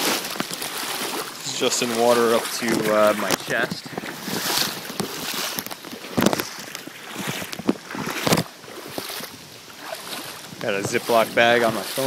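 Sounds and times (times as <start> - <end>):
floodwater sloshing and splashing: 0.0 - 12.0.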